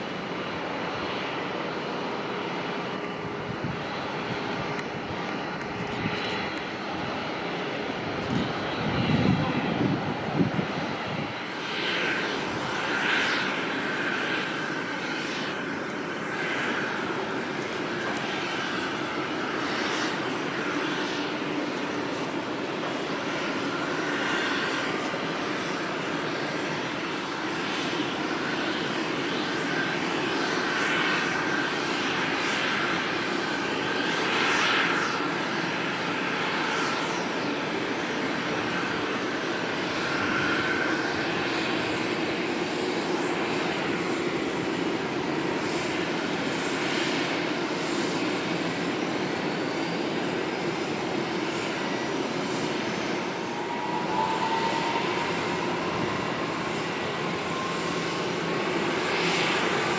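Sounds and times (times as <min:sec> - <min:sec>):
airliner engines running: 0:00.0 - 0:59.9.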